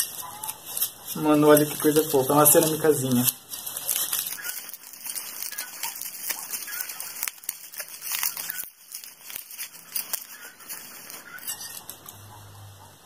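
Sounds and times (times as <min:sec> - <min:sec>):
plastic packaging crinkling and tearing: 0:00.0 - 0:12.0.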